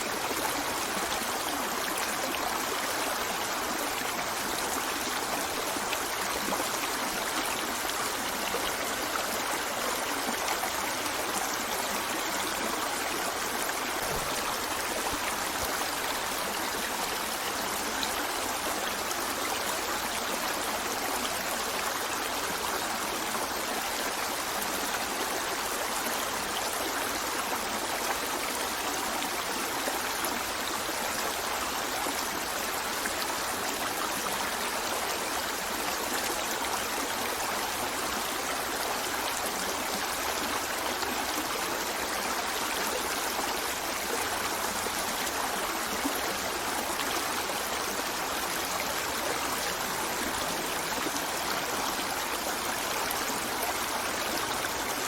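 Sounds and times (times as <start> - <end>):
river water running over stones: 0.0 - 55.0.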